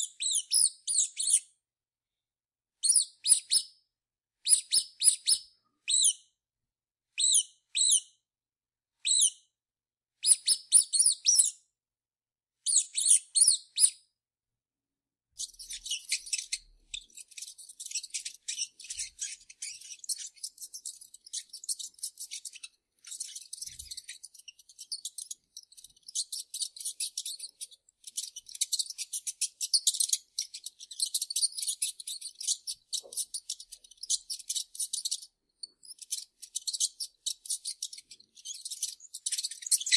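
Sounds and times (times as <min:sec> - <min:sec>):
mouse squeaking: 0:00.0 - 0:01.5, 0:02.8 - 0:03.8, 0:04.4 - 0:06.2, 0:07.2 - 0:08.1, 0:09.0 - 0:09.4, 0:10.2 - 0:11.6, 0:12.7 - 0:14.1, 0:15.4 - 0:39.9.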